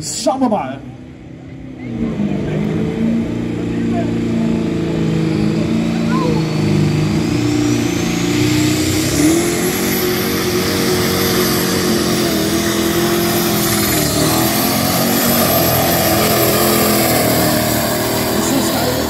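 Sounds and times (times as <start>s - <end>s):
high engine whine: 0.0s - 19.0s
tractor engine at full power: 0.0s - 19.0s.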